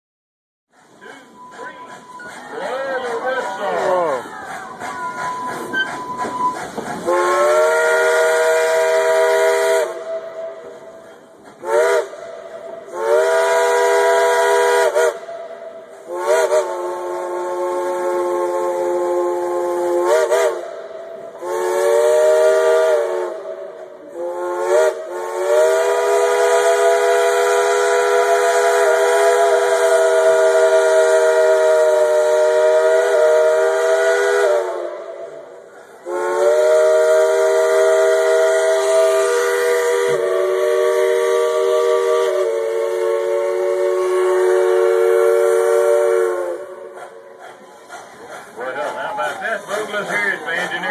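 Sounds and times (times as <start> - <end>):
steam hissing: 0.7 - 50.9
steam locomotive chime whistle: 1.0 - 10.8, 11.6 - 23.4, 24.1 - 35.4, 36.0 - 46.8.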